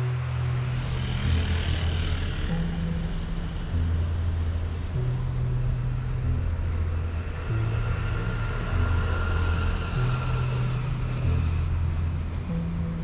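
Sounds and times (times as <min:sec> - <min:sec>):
city street traffic: 0:00.0 - 0:13.0
low sustained background music: 0:00.0 - 0:13.0.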